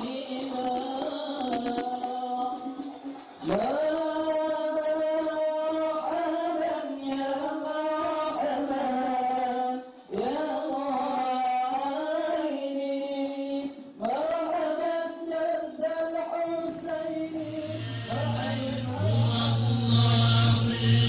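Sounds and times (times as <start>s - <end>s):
person singing devotional chant: 0.0s - 21.0s.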